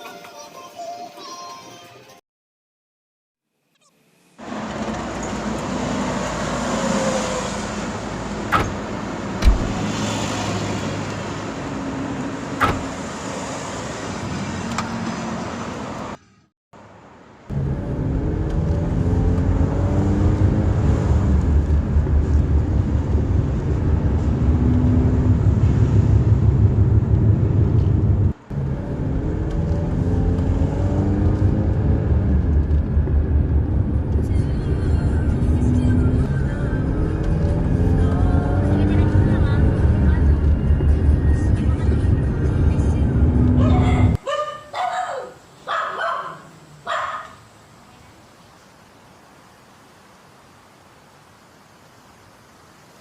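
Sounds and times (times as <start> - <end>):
vehicle engine and road noise: 4.2 - 53.0.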